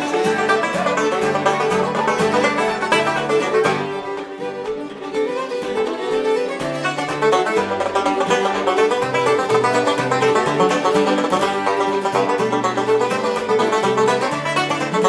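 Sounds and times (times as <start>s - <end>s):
banjo: 0.0s - 15.0s
fiddle: 0.0s - 15.0s
strummed acoustic guitar: 0.0s - 15.0s.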